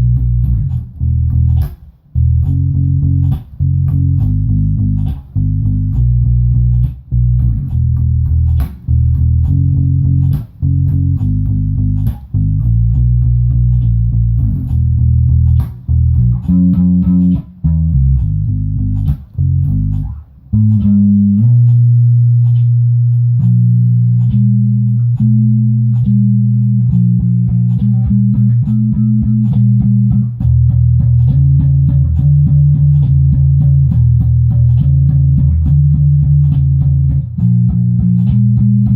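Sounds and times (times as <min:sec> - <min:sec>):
bass guitar playing: 0:00.0 - 0:38.9
percussive beat: 0:00.0 - 0:38.9.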